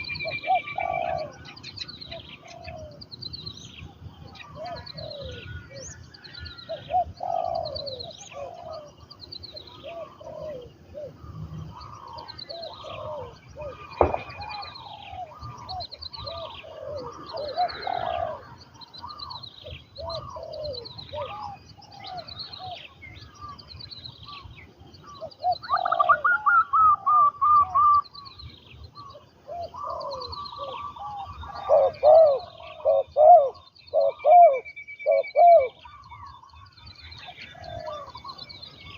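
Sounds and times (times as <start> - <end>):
doves cooing: 0.0 - 3.1, 3.8 - 23.6, 25.0 - 28.2, 29.0 - 38.9.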